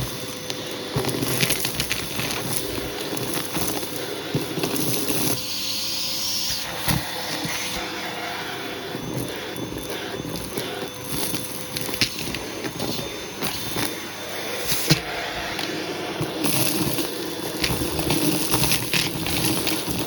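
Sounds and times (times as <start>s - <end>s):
vacuum cleaner running: 0.0s - 20.0s
hose rustling over rug: 0.6s - 20.0s
suction hiss: 1.2s - 20.0s.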